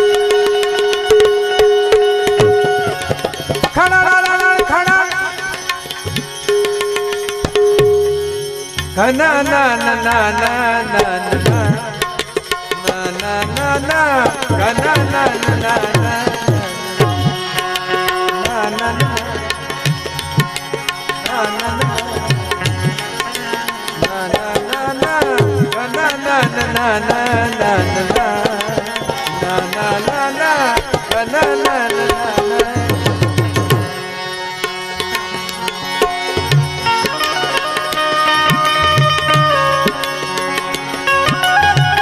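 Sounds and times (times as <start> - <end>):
tabla drumming: 0.0 - 42.0.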